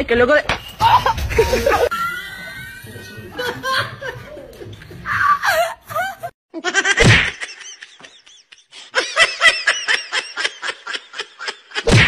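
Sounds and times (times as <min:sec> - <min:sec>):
person laughing high-pitched: 0:00.8 - 0:11.9.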